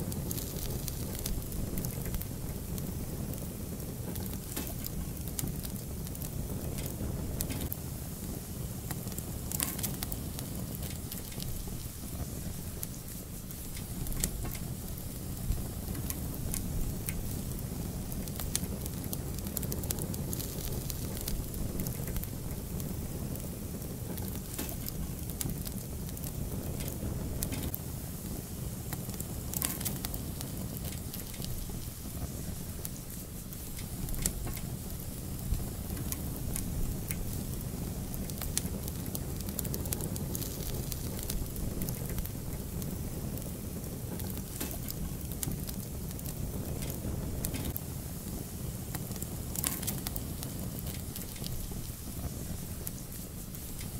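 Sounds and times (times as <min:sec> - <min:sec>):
fire crackling and popping: 0:00.0 - 0:53.9
low rumble of flames: 0:00.0 - 0:53.9.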